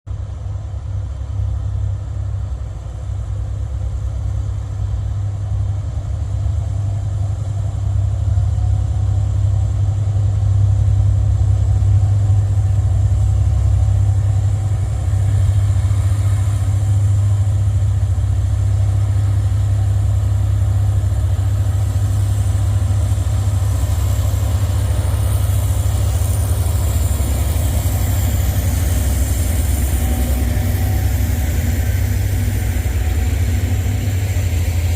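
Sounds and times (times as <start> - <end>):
diesel train engine rumbling: 0.1 - 34.9.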